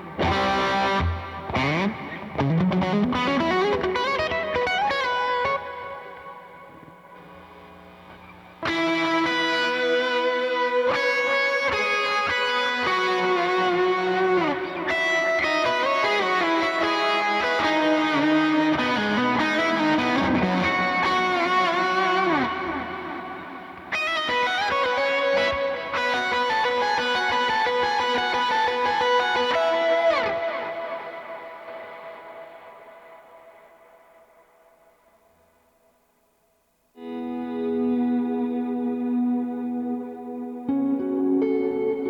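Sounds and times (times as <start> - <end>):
electric guitar with heavy effects: 0.0 - 35.6, 36.9 - 42.0.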